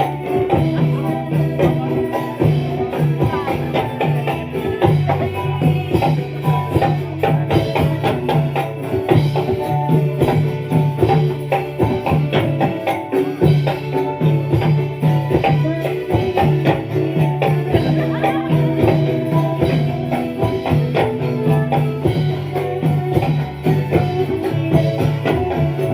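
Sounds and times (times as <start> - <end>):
frame drums and jingles: 0.0 - 25.9
sustained melody: 0.0 - 25.9.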